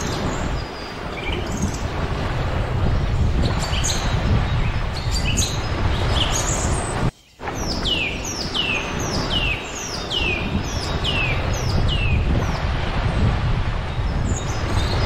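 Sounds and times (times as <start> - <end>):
songbird chirps: 0.0 - 15.0.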